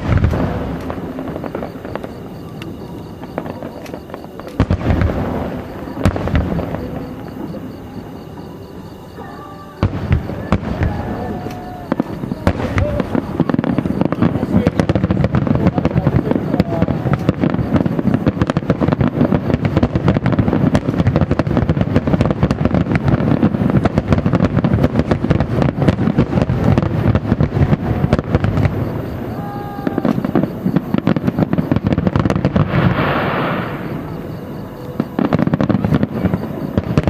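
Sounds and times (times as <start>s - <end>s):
fireworks bursting: 0.0s - 37.0s
hissing crackle: 0.0s - 37.0s.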